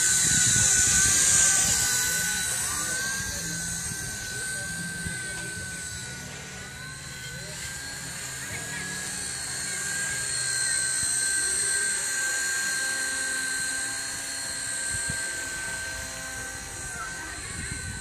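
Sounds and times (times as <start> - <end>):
toy helicopter motor whining: 0.0 - 18.0.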